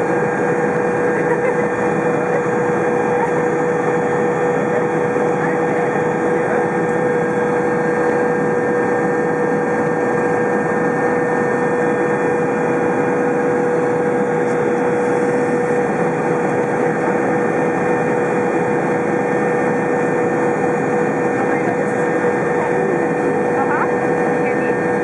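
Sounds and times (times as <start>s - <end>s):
constant whine: 0.0s - 25.0s
helicopter engines and rotor drone: 0.0s - 25.0s.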